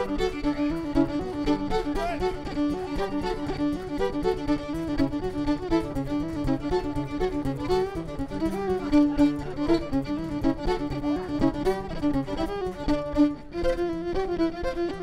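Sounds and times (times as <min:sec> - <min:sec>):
fiddle melody: 0:00.0 - 0:15.0
folk band playing: 0:00.0 - 0:15.0.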